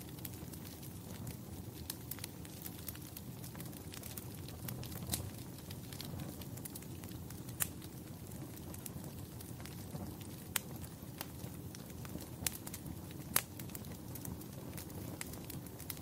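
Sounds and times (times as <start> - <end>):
fire crackling in fireplace: 0.0 - 16.0.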